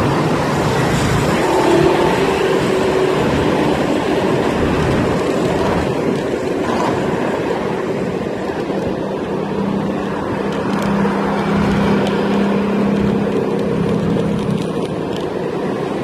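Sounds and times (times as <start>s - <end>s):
scooter wheels rolling on asphalt: 0.0s - 16.0s.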